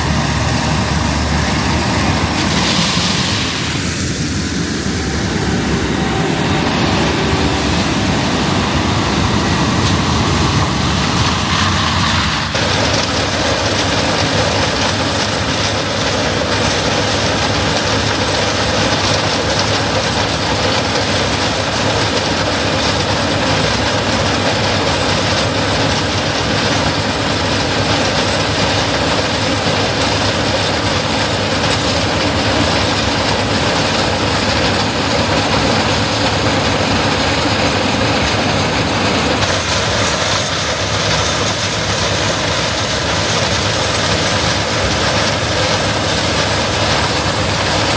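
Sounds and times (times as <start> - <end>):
harvest machinery drone: 0.0 - 47.9.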